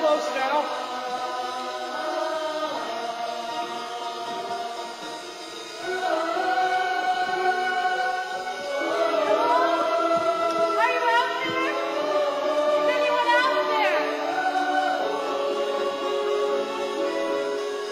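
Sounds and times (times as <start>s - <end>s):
choir singing long held notes: 0.0s - 17.9s.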